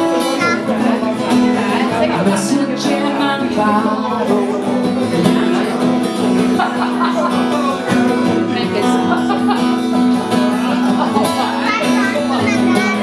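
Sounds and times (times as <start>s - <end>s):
acoustic guitar solo: 0.0s - 13.0s.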